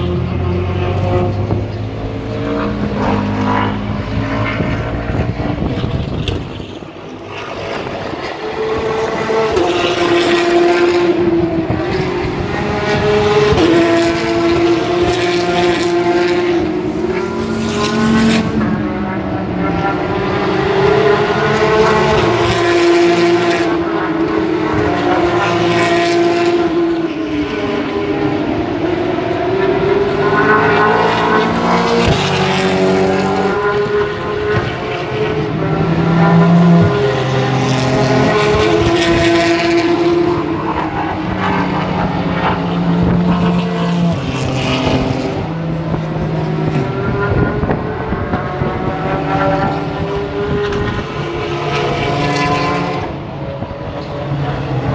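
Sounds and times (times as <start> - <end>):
racing car engines passing: 0.0 - 54.9.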